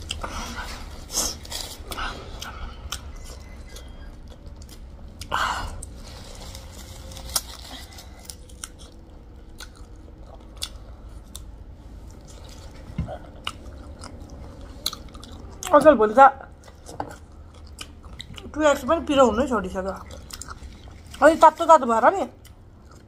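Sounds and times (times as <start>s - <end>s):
people chewing and biting food: 0.0s - 18.8s, 19.9s - 21.5s, 22.4s - 23.0s
steady low hum: 0.0s - 23.0s.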